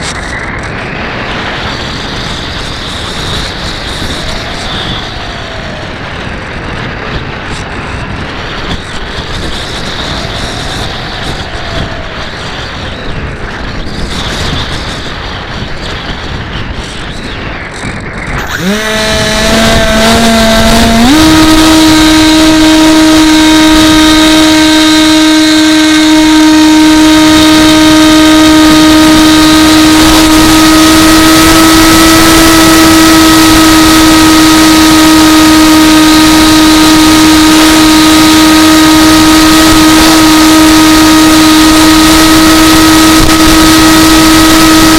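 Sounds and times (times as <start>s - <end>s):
electric motor and propeller whine: 0.0s - 44.9s
rushing noise: 0.0s - 44.9s.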